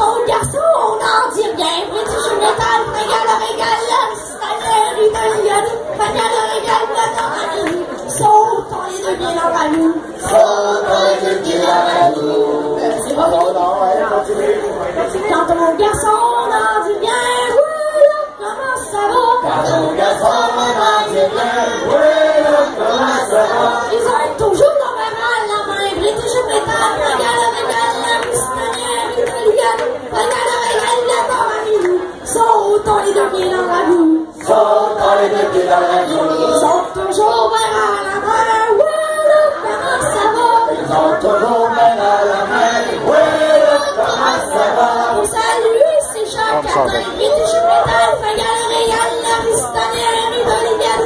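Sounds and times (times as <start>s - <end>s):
group singing unaccompanied: 0.0s - 51.0s.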